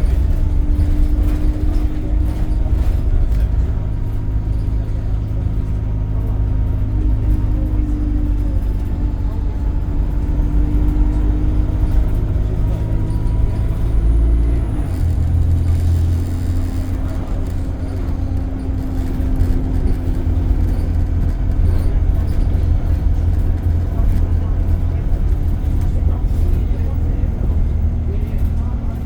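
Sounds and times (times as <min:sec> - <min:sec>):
bus engine drone: 0:00.0 - 0:29.0
heavier low hum: 0:00.0 - 0:29.0.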